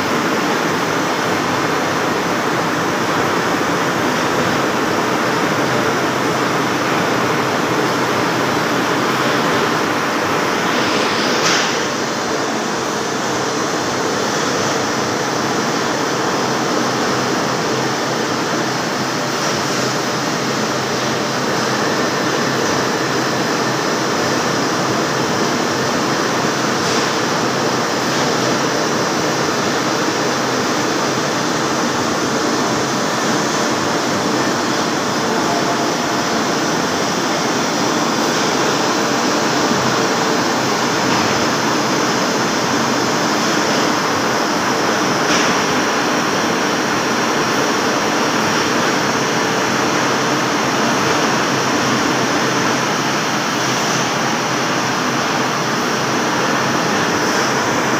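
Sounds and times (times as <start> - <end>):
lathe running and cutting metal: 0.0 - 57.9.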